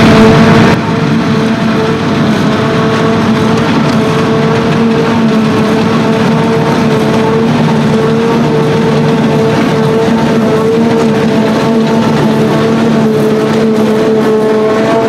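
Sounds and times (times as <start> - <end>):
forage harvester machine drone: 0.0 - 15.0
steady machine whine: 0.0 - 15.0.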